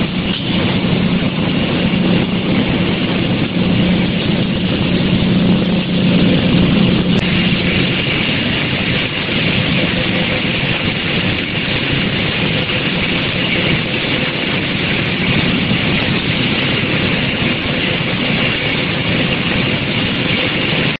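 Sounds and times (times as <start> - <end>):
faint steady hum: 0.0 - 20.9
packing line machinery running: 0.0 - 21.0.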